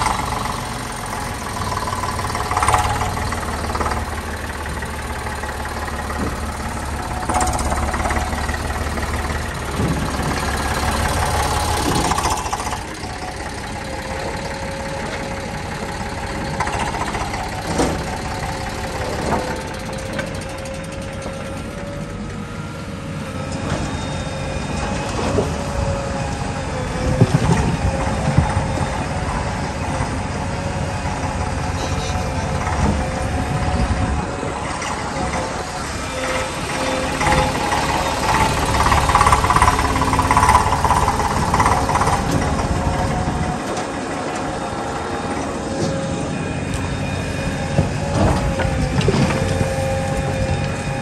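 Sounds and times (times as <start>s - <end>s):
diesel engine running: 0.0s - 51.0s
steady whine: 0.0s - 51.0s.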